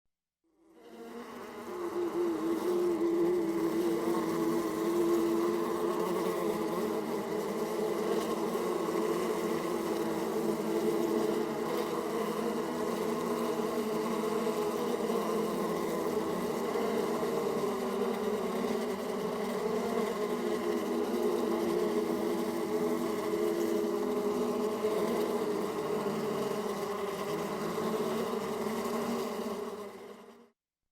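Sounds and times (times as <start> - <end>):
swarm of bees buzzing: 0.8 - 30.4.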